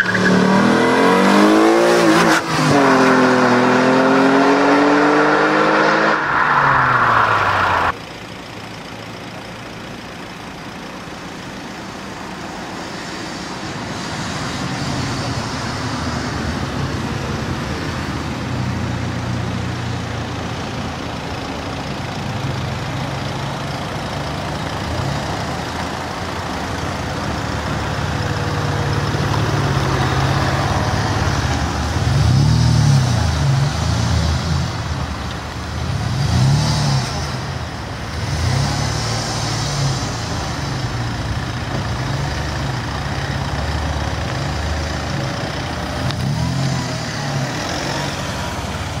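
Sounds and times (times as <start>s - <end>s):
car engine revving: 0.0s - 8.0s, 13.5s - 49.0s.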